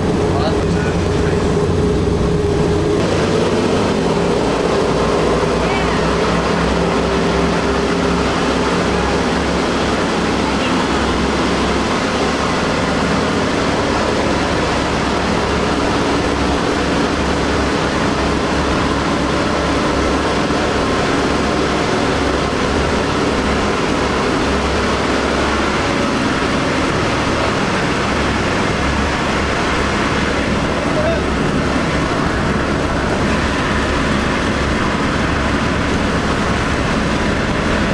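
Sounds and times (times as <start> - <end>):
aircraft engines droning: 0.0 - 37.9.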